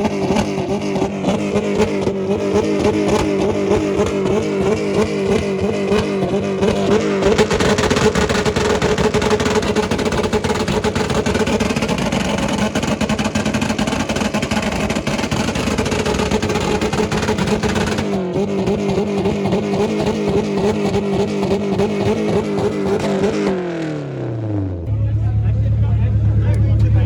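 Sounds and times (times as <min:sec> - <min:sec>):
car engine at high revs: 0:00.0 - 0:27.0.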